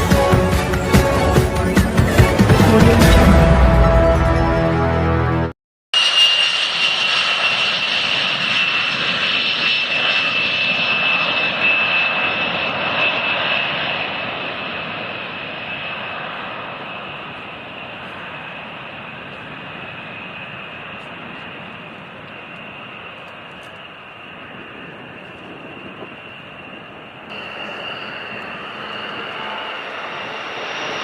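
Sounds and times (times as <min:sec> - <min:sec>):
plane engines whining: 0:00.0 - 0:31.0.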